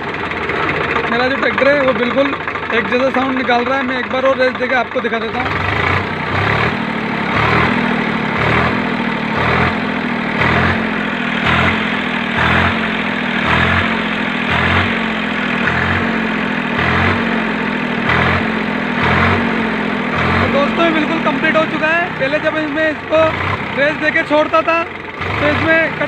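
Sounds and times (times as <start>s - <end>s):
tractor diesel engine revving: 0.0s - 26.0s.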